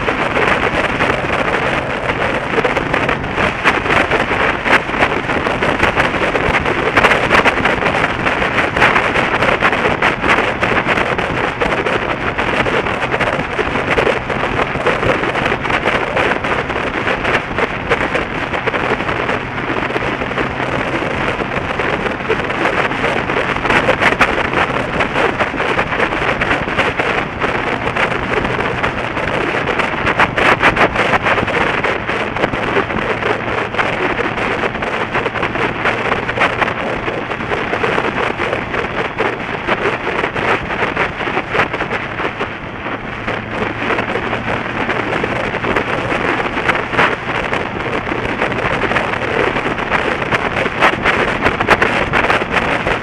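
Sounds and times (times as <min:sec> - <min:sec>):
low engine hum: 0:00.0 - 0:53.0
wind buffeting microphone: 0:00.0 - 0:53.0.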